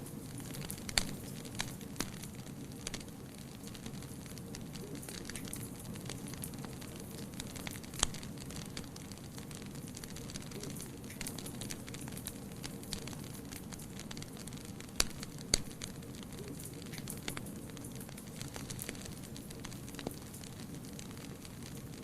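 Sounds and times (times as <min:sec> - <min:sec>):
fire crackling in fireplace: 0:00.0 - 0:22.0
sharp fire snaps: 0:00.0 - 0:22.0.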